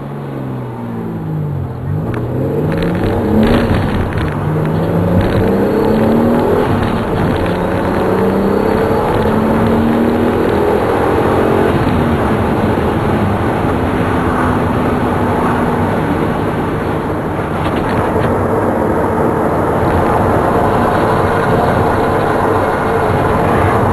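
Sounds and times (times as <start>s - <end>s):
car engine accelerating: 0.0s - 23.9s
road noise: 0.0s - 23.9s
wind noise: 1.0s - 23.9s.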